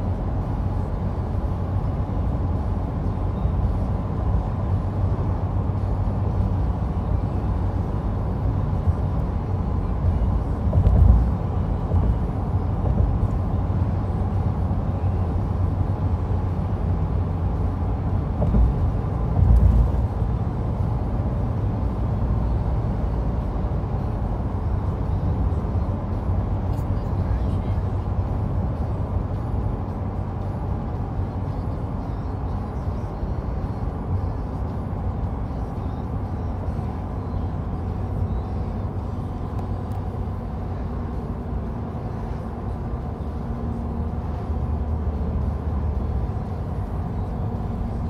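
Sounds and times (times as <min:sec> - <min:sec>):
road and engine noise in car cabin: 0:00.0 - 0:48.0.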